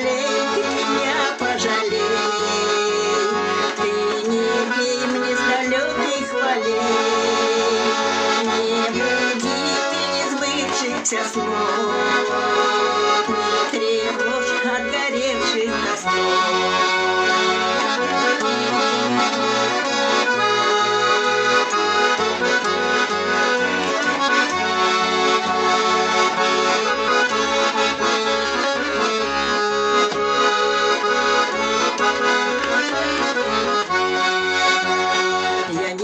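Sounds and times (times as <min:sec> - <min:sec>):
button accordion melody: 0:00.0 - 0:36.0.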